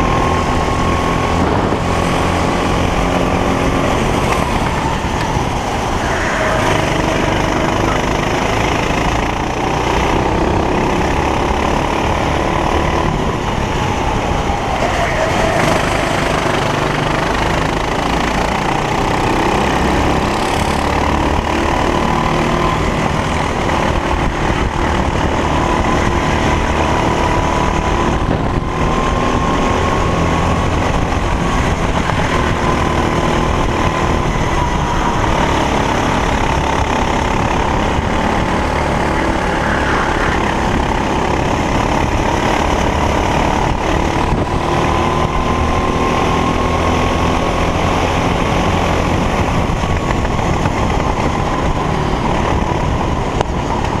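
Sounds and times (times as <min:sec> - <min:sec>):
racing kart engine running: 0:00.0 - 0:54.0.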